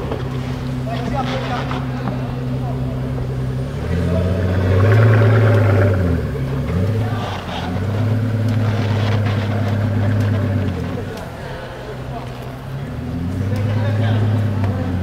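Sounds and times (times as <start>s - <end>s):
sports car engine running: 0.0s - 15.0s.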